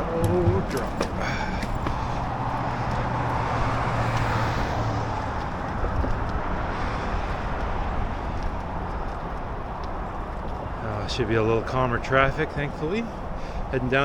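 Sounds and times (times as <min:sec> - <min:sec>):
steady traffic rush: 0:00.0 - 0:14.0
vehicle passing by: 0:00.0 - 0:14.0.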